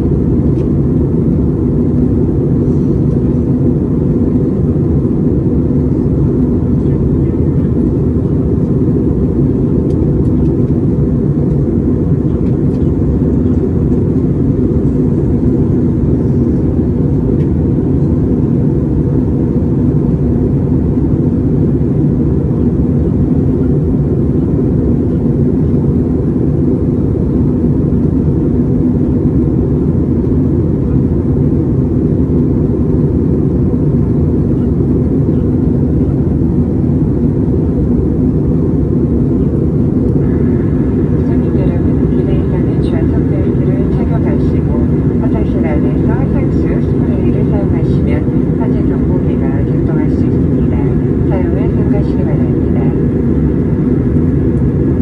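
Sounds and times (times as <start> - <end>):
jet airliner cabin noise: 0.0 - 55.0.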